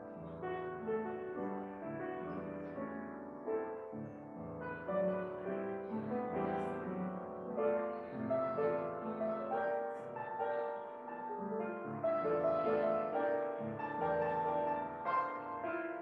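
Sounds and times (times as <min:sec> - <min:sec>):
upright piano playing: 0:00.0 - 0:16.0.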